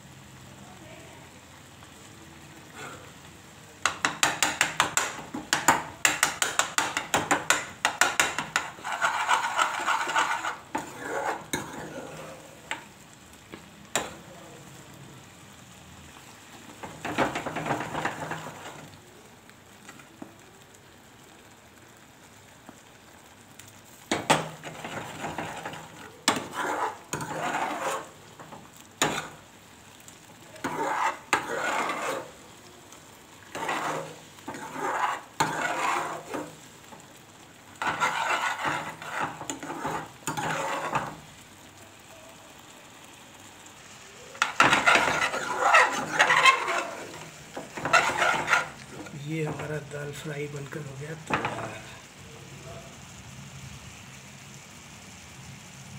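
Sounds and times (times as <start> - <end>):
ladle stirring and scraping pan: 2.6 - 20.4, 22.6 - 52.2.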